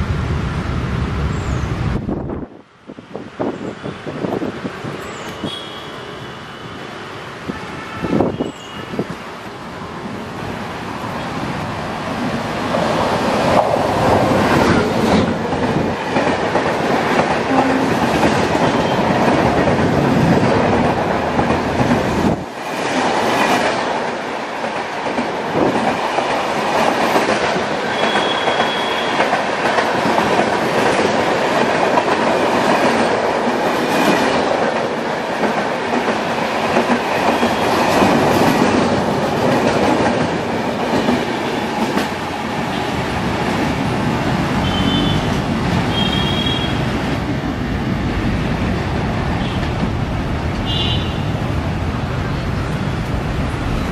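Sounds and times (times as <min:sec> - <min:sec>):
train rumbling past: 0:00.0 - 0:53.9.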